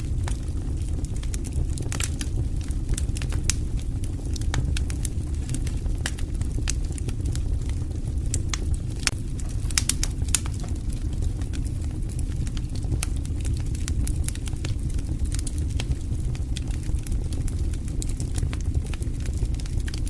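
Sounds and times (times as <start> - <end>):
campfire crackling and popping: 0.0 - 20.0
low rumble of flames: 0.0 - 20.0.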